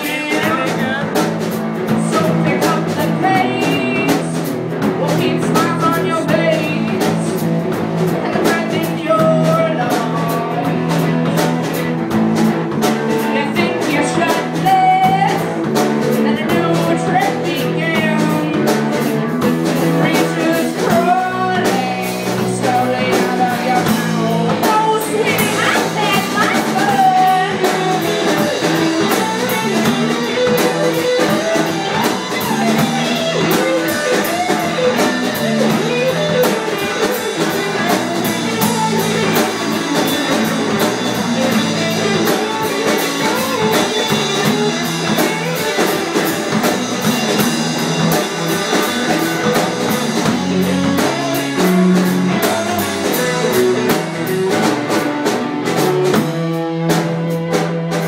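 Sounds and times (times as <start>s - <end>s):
drum kit beat: 0.0s - 58.0s
rock guitar: 0.0s - 58.0s.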